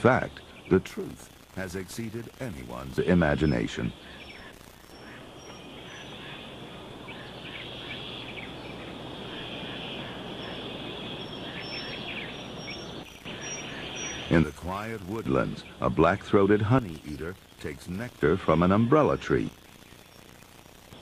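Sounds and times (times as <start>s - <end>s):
steady high hiss: 0.0s - 21.0s
bird chirps: 0.1s - 17.7s.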